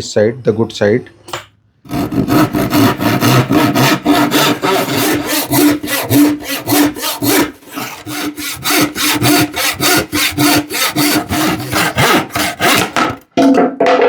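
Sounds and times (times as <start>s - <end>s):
hand saw cutting plywood: 1.9s - 13.2s.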